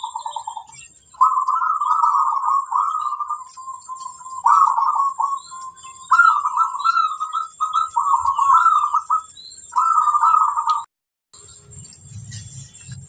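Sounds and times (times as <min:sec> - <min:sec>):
dove cooing: 0:00.0 - 0:10.9
small chirps: 0:00.0 - 0:13.0.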